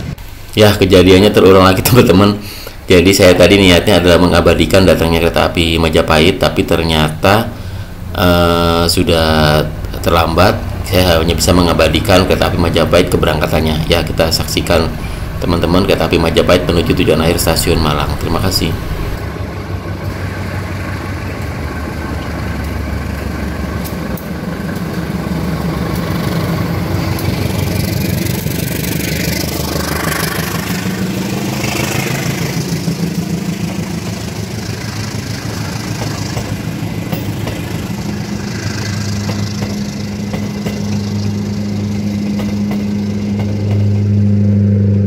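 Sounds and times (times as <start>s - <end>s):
diesel locomotive engine running: 0.0s - 45.0s
train coaches rolling by: 0.0s - 45.0s.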